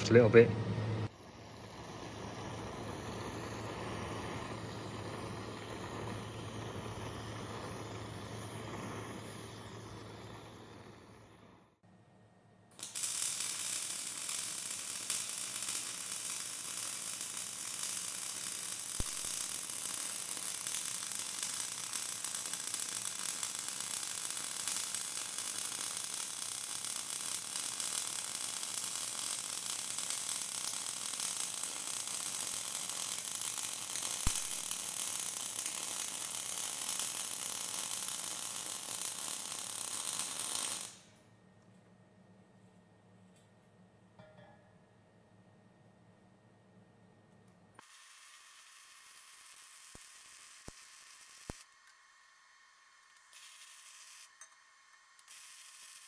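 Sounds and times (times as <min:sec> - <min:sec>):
arc welding sizzle: 0:01.0 - 0:11.8, 0:12.7 - 0:41.3, 0:47.8 - 0:56.0.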